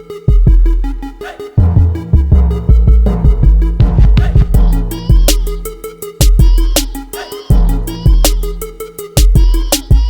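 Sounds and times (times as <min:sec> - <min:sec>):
hip hop music with bass: 0:00.0 - 0:10.0.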